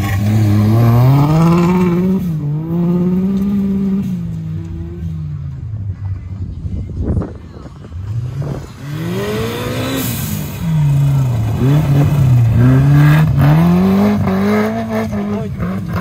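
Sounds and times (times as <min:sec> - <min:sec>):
engine revving: 0:00.0 - 0:05.1, 0:08.0 - 0:16.0.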